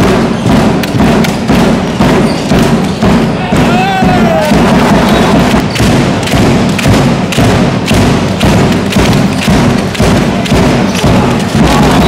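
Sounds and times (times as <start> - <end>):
heavy drum beat: 0.0 - 12.0.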